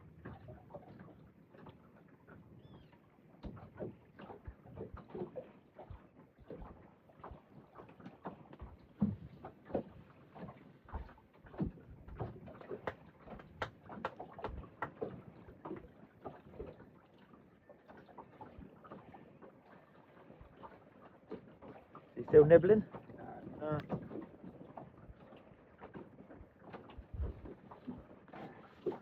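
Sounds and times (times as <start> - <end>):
water slapping boat hull: 0.0 - 29.0.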